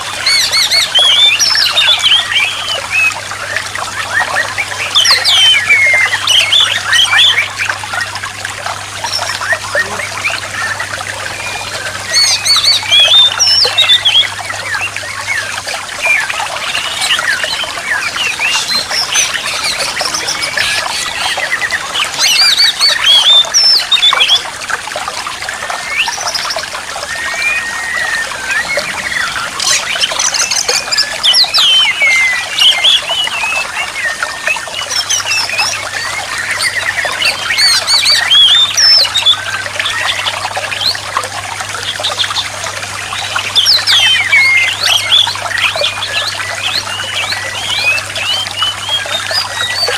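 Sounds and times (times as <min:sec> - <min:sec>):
bird song whistles: 0:00.0 - 0:08.0, 0:09.0 - 0:24.5, 0:25.8 - 0:41.0, 0:43.3 - 0:49.9
trickling water: 0:00.0 - 0:49.9.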